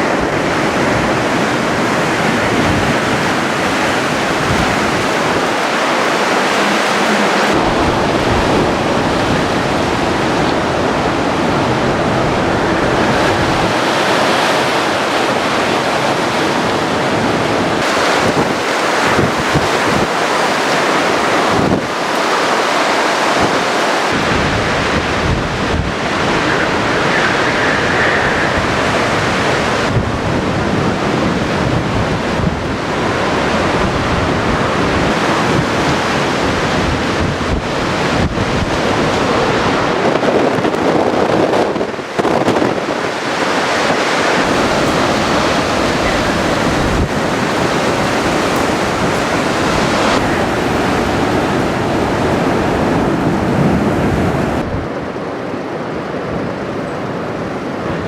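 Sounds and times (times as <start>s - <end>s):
storm wind buffeting microphone: 0.0s - 58.0s.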